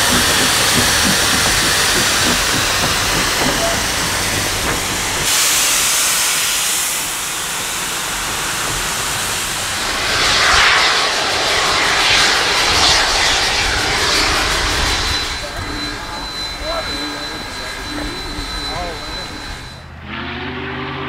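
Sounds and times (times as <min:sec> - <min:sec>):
slow swelling beats: 0:00.0 - 0:05.6, 0:08.0 - 0:20.2
steam locomotive hissing: 0:00.0 - 0:20.3.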